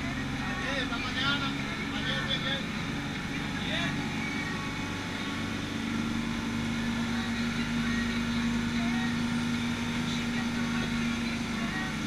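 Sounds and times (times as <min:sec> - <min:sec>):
boat engine droning: 0:00.0 - 0:12.0
rushing wake water: 0:00.0 - 0:12.0.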